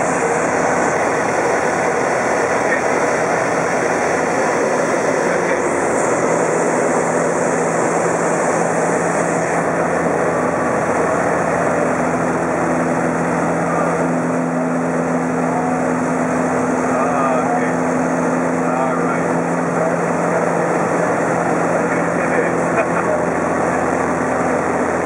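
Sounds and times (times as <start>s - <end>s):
aircraft engine and propeller: 0.0s - 25.0s.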